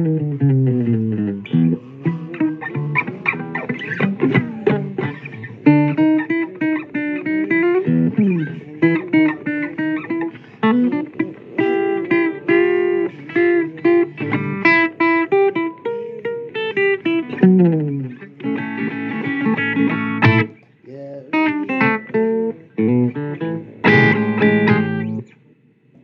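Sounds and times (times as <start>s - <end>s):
blues guitar: 0.0s - 26.0s.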